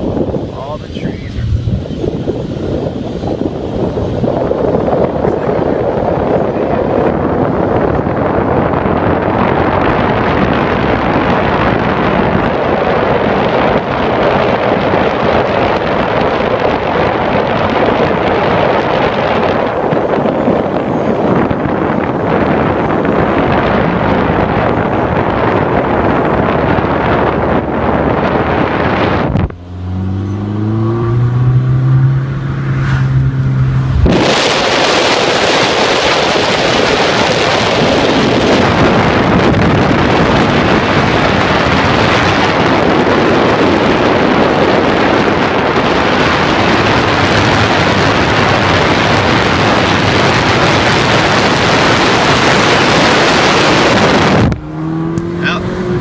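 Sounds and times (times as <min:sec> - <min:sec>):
loud rushing wind: 0:00.0 - 0:56.0
low engine hum: 0:00.0 - 0:56.0
road noise: 0:00.0 - 0:56.0.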